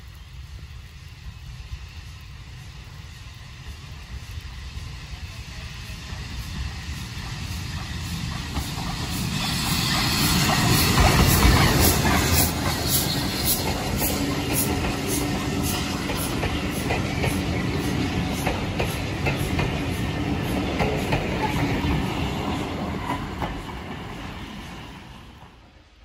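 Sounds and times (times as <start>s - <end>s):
train clacking past: 0.0s - 25.8s.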